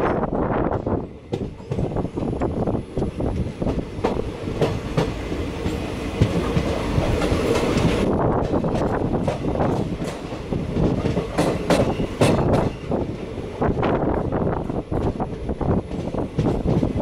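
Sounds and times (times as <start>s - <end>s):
train rushing rail noise: 0.0s - 17.0s.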